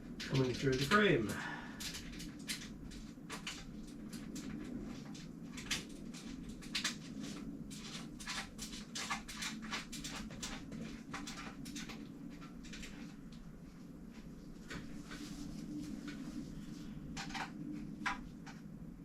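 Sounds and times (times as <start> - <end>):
steady low hum: 0.0 - 19.0
clicks and rustles of bicycle parts: 0.2 - 13.5, 14.6 - 18.7.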